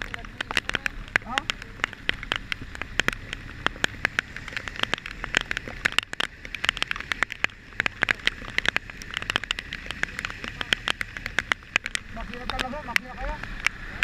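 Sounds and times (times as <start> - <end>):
raindrops ticking on hard surface: 0.0 - 14.0.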